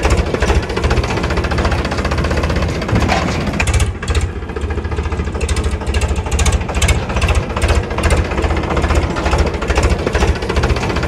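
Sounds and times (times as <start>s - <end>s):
diesel tractor engine knocking: 0.0s - 11.0s.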